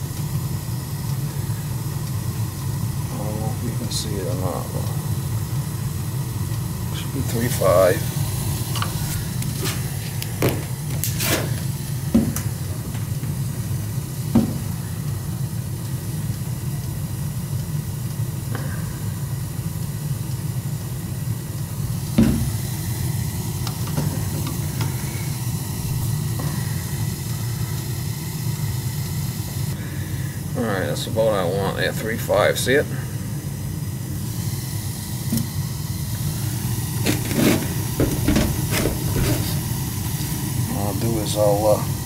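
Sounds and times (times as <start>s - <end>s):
gas boiler burner rumbling: 0.0s - 42.0s.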